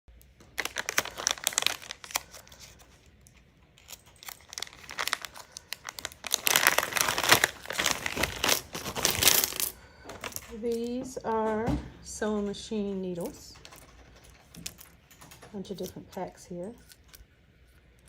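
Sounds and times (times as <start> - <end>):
packaging crinkling: 0.1 - 11.0, 13.2 - 18.0.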